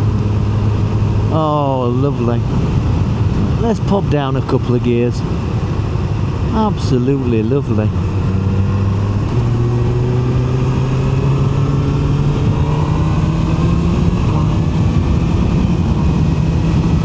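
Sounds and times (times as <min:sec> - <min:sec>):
motorcycle engine accelerating: 0:00.0 - 0:04.4, 0:05.3 - 0:17.0.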